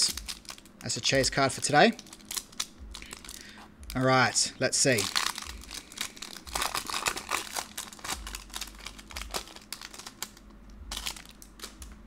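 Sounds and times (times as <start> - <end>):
foil wrapper tearing and crinkling: 0.0 - 4.0, 4.8 - 11.8.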